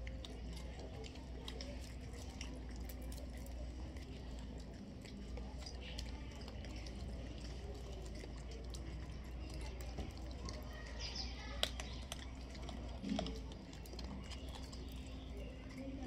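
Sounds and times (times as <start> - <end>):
grains clicking on concrete: 0.0 - 16.0.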